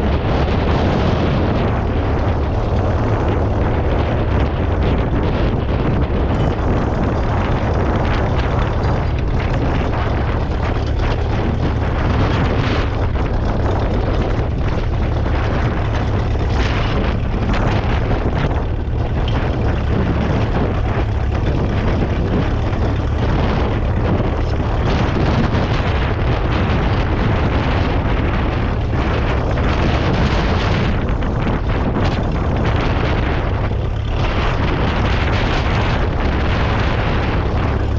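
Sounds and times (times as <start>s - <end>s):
tractor engine rumbling: 0.0s - 37.9s.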